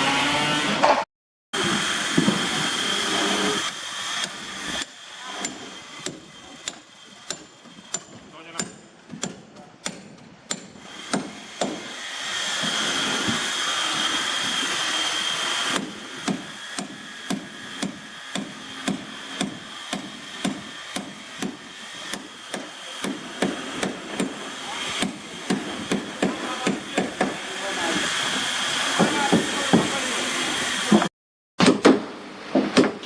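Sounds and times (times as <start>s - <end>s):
hammer striking wood: 1.6s - 2.7s, 3.6s - 14.8s, 15.6s - 27.4s, 29.0s - 30.0s, 30.9s - 33.0s.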